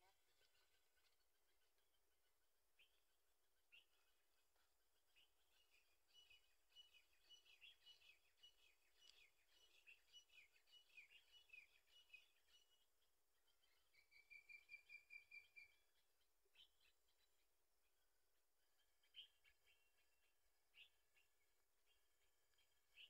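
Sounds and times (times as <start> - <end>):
faint birdsong chirps: 0.0 - 23.0.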